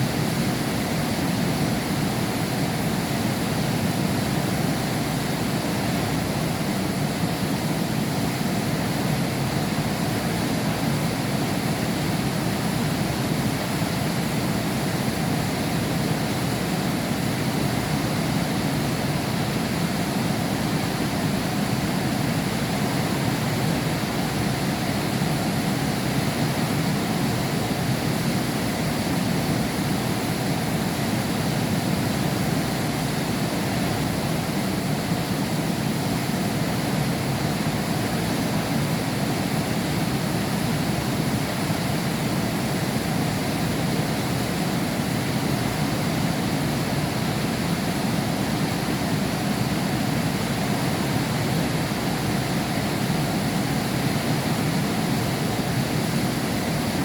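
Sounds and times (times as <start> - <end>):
heavy rain through a window: 0.0 - 57.0.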